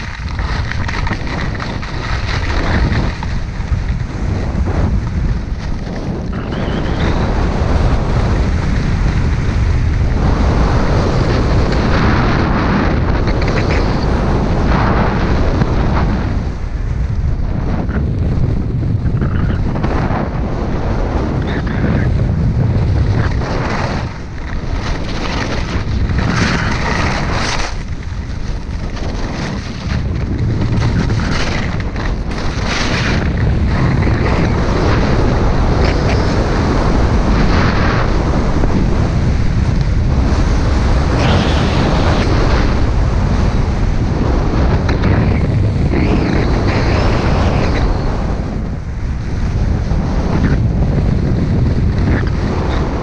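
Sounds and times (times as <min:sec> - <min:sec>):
skis scraping on snow: 0:00.0 - 0:53.0
wind buffeting microphone: 0:00.0 - 0:53.0.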